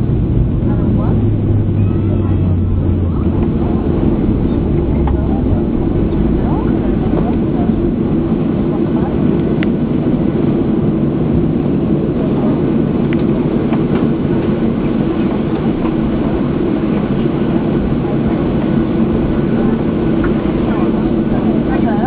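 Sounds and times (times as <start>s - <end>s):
aircraft engine hum and rumble: 0.0s - 22.0s.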